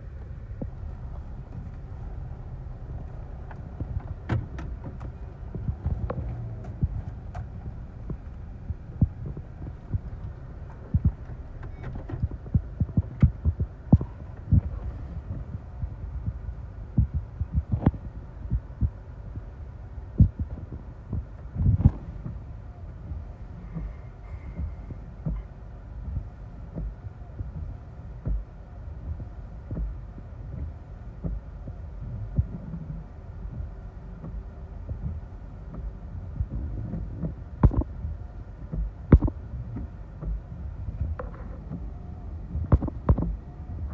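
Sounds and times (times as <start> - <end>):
gusty wind buffeting car: 0.0 - 43.9
raindrops tapping on car roof: 0.1 - 22.5, 29.1 - 43.9.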